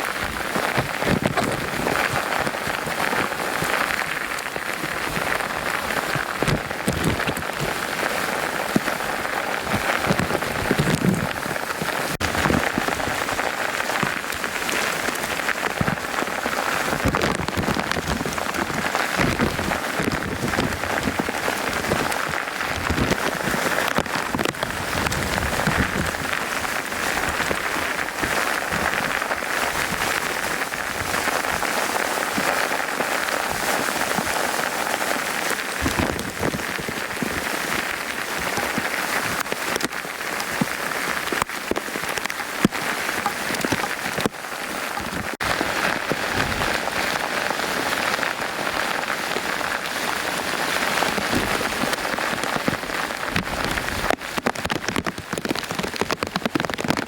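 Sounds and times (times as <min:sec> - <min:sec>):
close raindrop splats: 0:00.0 - 0:57.0
heavy rain falling: 0:00.0 - 0:57.0.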